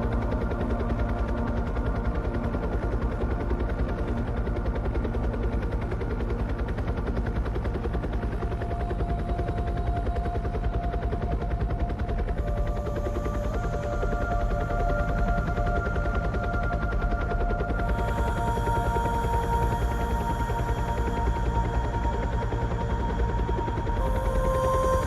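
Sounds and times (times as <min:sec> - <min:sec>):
helicopter engine tones: 0:00.0 - 0:25.0.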